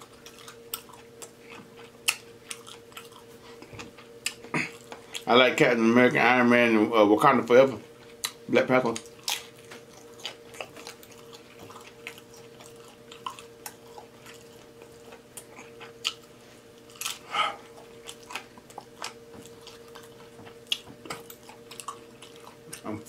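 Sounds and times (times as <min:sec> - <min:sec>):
chewing and wet mouth smacking: 0:00.0 - 0:05.3, 0:08.0 - 0:23.0.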